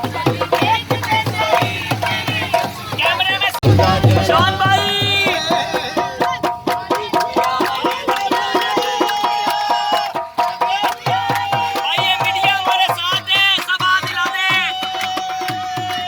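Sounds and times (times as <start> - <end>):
quick drum beat: 0.0 - 16.0.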